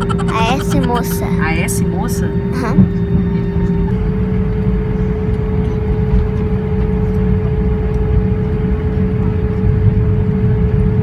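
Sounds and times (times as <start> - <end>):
constant droning tone: 0.0 - 11.0.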